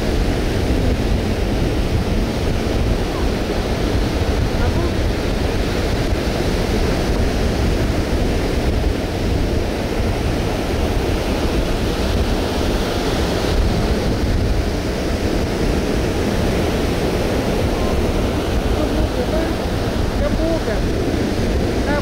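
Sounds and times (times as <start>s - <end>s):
surf breaking on sandy beach: 0.0s - 22.0s
wind buffeting microphone: 0.0s - 22.0s.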